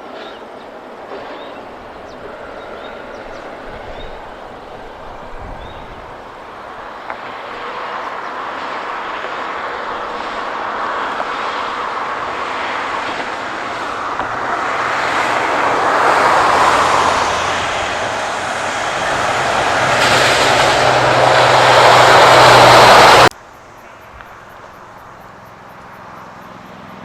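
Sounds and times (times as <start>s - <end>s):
heavy truck passing: 0.7s - 27.0s.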